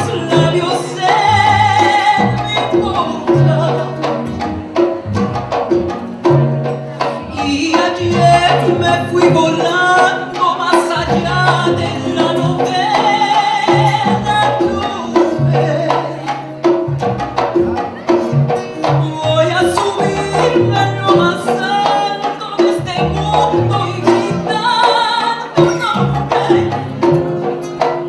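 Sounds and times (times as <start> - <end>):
person singing: 0.0 - 4.4, 7.0 - 16.7, 18.7 - 27.2
acoustic guitar: 0.0 - 28.0
double bass notes: 0.0 - 28.0.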